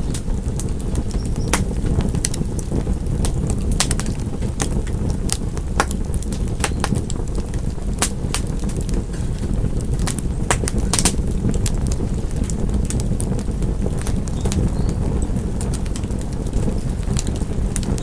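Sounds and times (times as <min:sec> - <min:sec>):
wood fire burning: 0:00.0 - 0:18.0.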